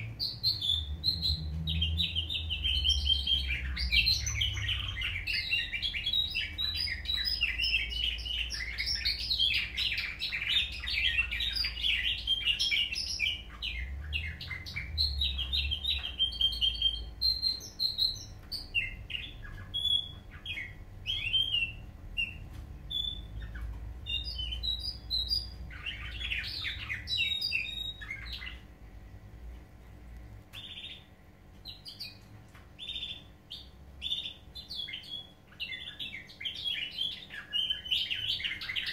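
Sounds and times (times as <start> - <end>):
steady low hum: 0.0 - 36.9
canaries singing: 0.0 - 38.9.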